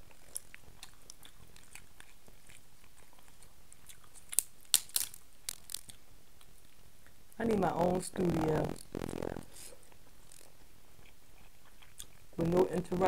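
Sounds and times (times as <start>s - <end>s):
person chewing: 0.0s - 7.2s, 8.4s - 12.9s.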